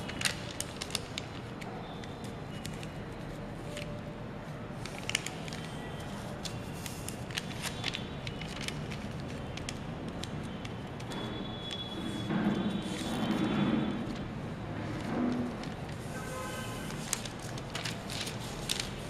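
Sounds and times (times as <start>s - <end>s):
stiff paper crackling and rustling: 0.0s - 4.1s, 4.7s - 14.3s, 14.9s - 19.0s.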